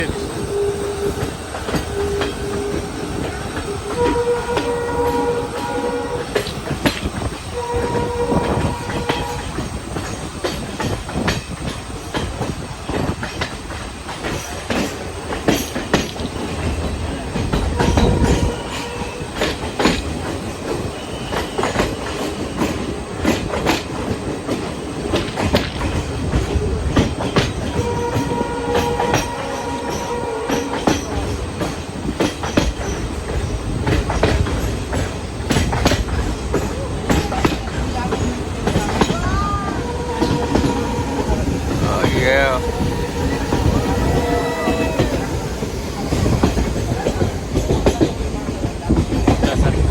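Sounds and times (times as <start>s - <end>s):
train rolling rumble: 0.0s - 49.9s
wheels clicking over rail joints: 1.2s - 49.9s.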